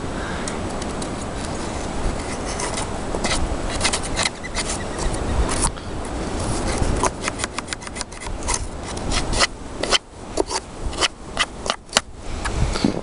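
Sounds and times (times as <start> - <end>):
stick scraping wood and snow: 0.7 - 13.0.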